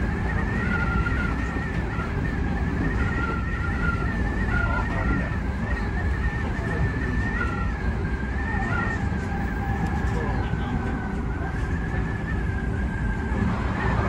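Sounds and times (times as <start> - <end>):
electric train rumble: 0.0 - 14.0
high wind whistle: 0.0 - 14.0.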